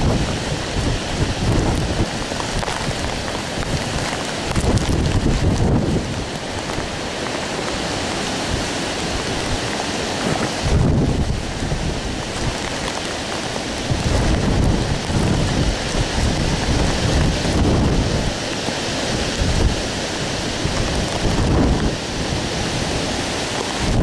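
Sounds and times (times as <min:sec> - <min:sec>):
heavy rain hissing: 0:00.0 - 0:24.0
wind gusts rumbling: 0:00.0 - 0:24.0.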